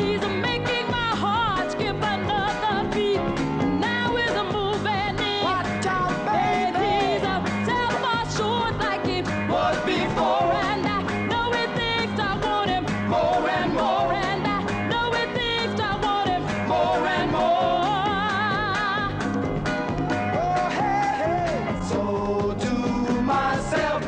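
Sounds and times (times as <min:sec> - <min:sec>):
drums: 0:00.0 - 0:24.0
guitar: 0:00.0 - 0:24.0
vocal group singing: 0:03.8 - 0:19.2, 0:20.0 - 0:24.0.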